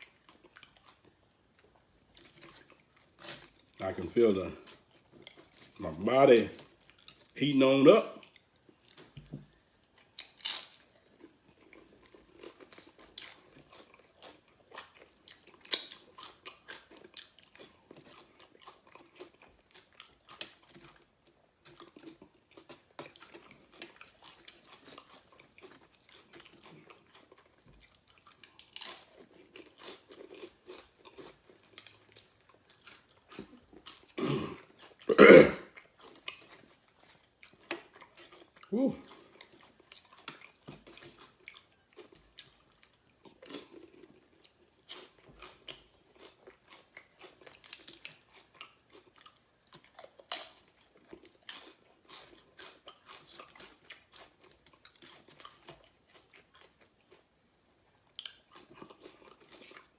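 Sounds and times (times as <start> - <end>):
person chewing crunchy chips: 0.0 - 57.4, 58.0 - 59.9.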